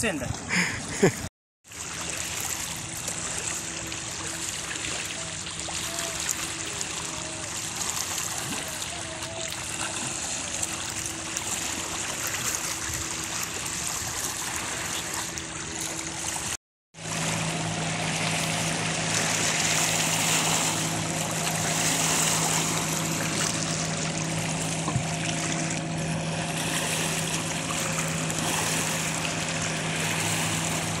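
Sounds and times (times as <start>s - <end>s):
low motor hum: 0.0s - 31.0s
small waves lapping: 0.0s - 31.0s.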